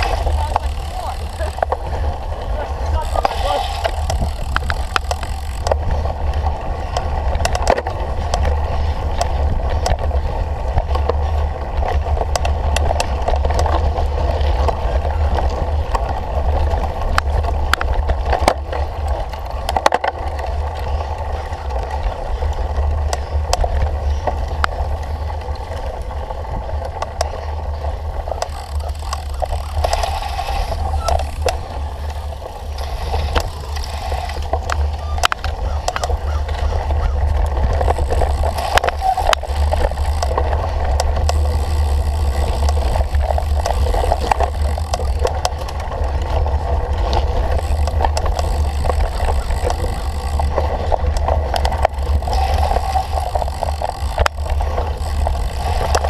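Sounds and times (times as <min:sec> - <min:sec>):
bicycle rattles and clicks: 0:00.0 - 0:56.0
wind and tyre rumble: 0:00.0 - 0:56.0.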